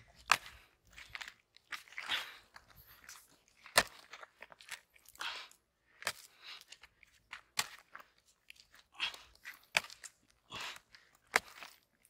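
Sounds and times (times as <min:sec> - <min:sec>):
dry mud clods crunching underfoot: 0:00.0 - 0:12.0.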